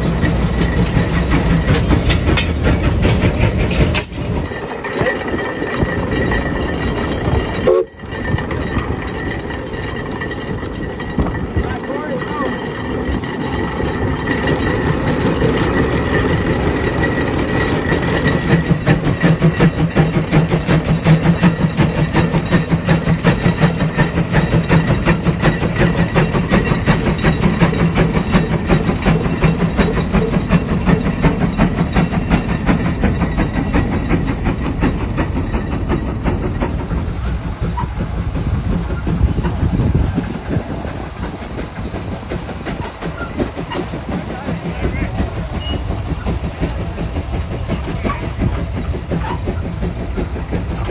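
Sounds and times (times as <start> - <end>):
steam traction engine running: 0.0 - 50.9.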